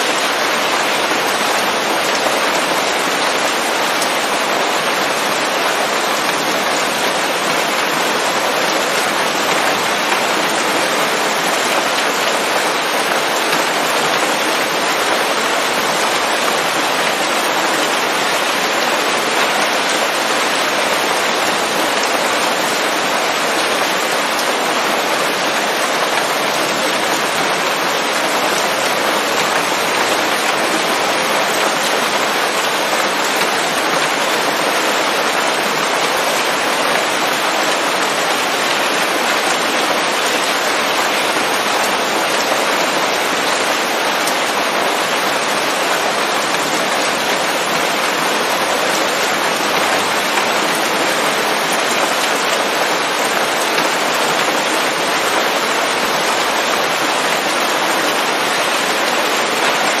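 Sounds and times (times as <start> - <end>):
rain falling on leaves: 0.0 - 60.0.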